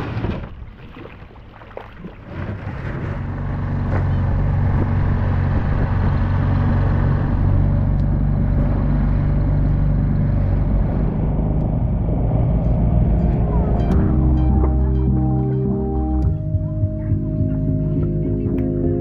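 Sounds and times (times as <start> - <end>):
outboard motor droning: 0.0 - 19.0.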